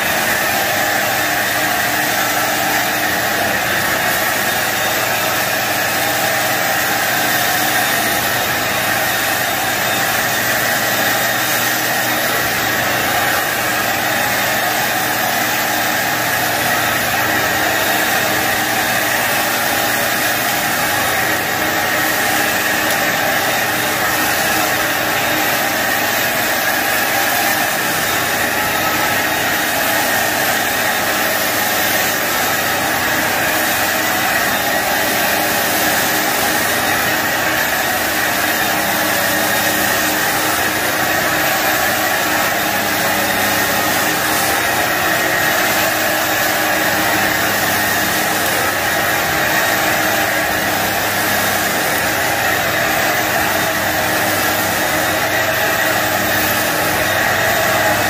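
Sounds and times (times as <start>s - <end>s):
vacuum motor whooshing: 0.0s - 58.0s.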